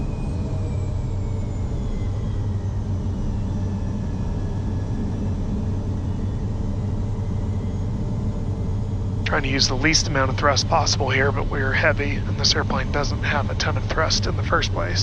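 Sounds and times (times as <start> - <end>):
high turbine whine: 0.0 - 15.0
jet engine low hum: 0.0 - 15.0.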